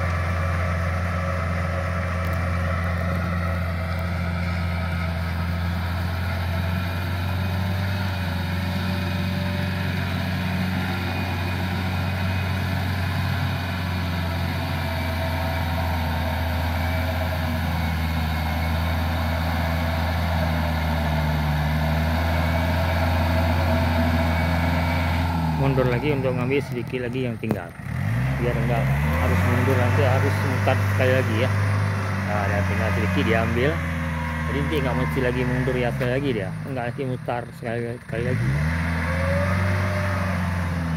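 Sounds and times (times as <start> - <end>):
tractor engine humming: 0.0 - 40.9.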